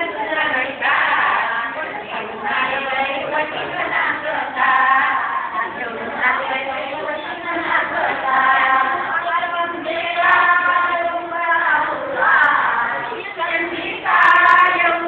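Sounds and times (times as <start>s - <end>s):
women singing in unison: 0.0s - 15.0s.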